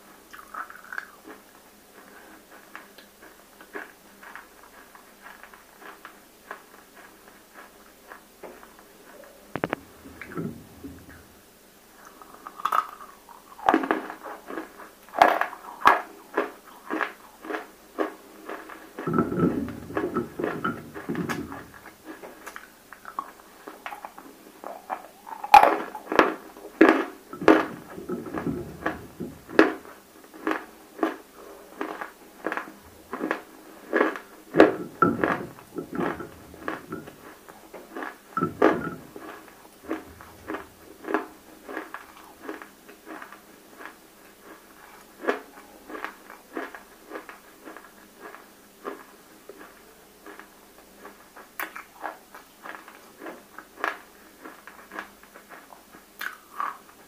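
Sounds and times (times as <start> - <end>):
chewing with sharp crunches: 0.2 - 11.3, 12.0 - 57.0.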